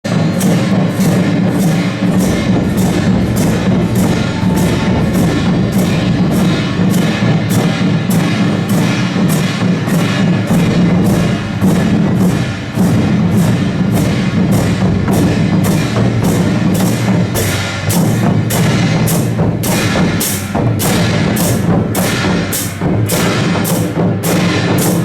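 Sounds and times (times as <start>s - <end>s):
drum troupe playing loud beat: 0.1s - 25.0s.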